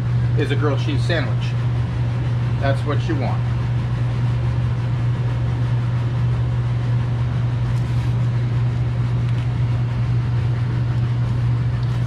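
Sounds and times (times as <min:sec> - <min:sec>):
ventilation fan humming: 0:00.0 - 0:12.0.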